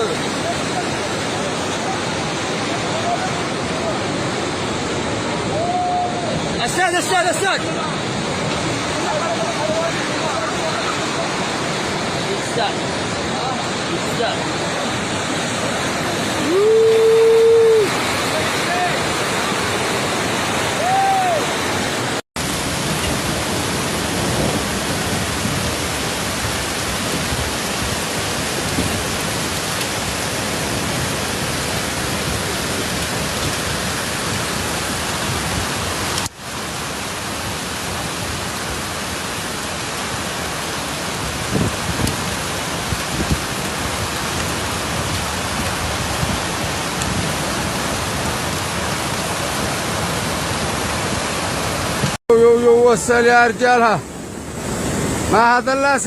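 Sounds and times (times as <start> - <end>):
flood water rushing: 0.0 - 56.0.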